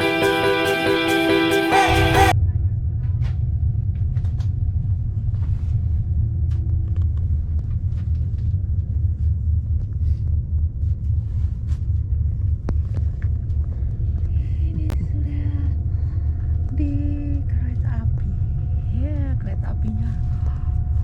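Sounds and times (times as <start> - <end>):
train rumbling at speed: 0.0 - 21.0.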